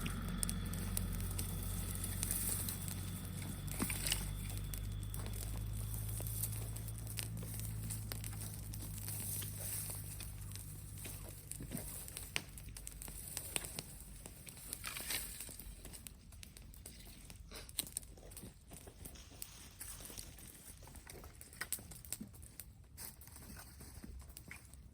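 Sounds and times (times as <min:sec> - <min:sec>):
bonfire crackling and popping: 0:00.0 - 0:23.3
low steady hum: 0:00.0 - 0:24.7.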